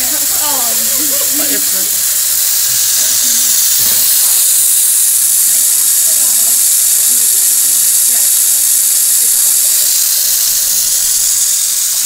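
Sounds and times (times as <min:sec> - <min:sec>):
faint voices: 0:00.0 - 0:12.0
loud steady hiss: 0:00.0 - 0:12.0.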